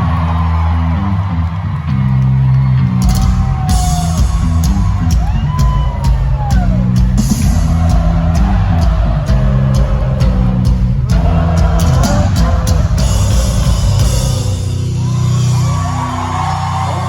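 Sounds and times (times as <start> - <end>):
crowd whooping: 0.0 - 17.0
rock drum kit: 2.8 - 17.0.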